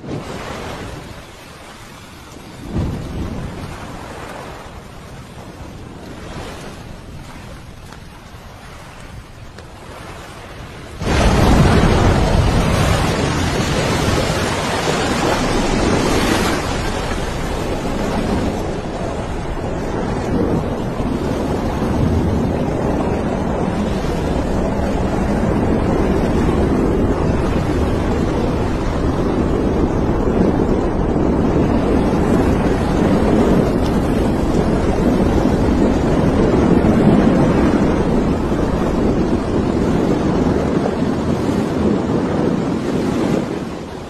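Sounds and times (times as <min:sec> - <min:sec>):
explosion rumble and blast wind: 0:00.0 - 0:44.0.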